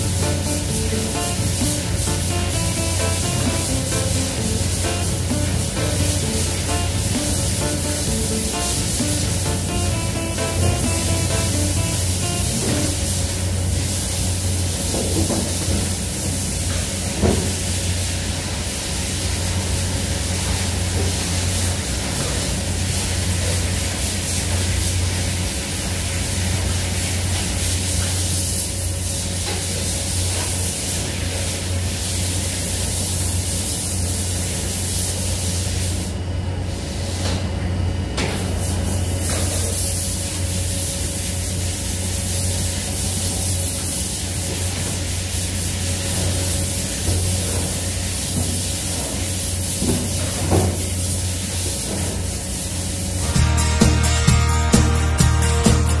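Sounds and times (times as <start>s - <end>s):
loud constant hiss: 0.0s - 36.3s, 38.4s - 56.0s
low hum of machinery: 0.0s - 56.0s.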